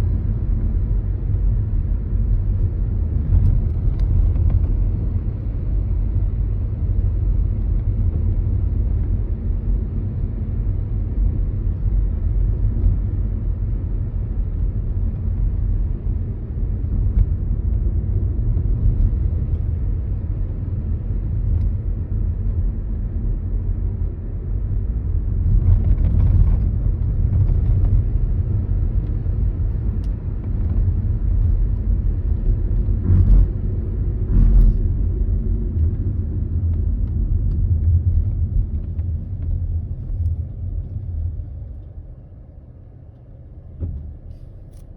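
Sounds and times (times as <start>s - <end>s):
road and tyre rumble: 0.0s - 44.9s.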